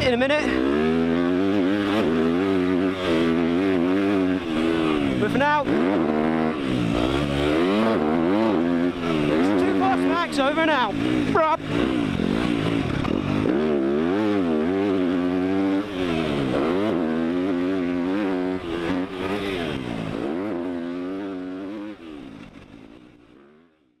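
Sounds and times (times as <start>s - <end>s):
motocross bike engine revving: 0.0s - 23.7s.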